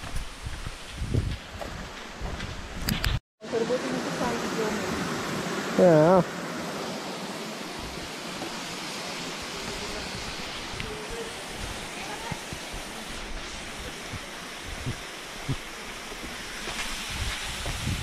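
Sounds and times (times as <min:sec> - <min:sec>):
stream rushing: 0:03.4 - 0:18.0.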